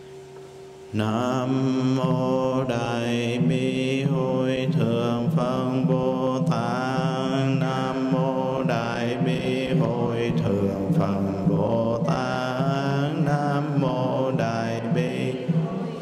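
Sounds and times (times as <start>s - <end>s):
rhythmic accompaniment: 0.0s - 16.0s
person chanting a mantra: 0.9s - 16.0s.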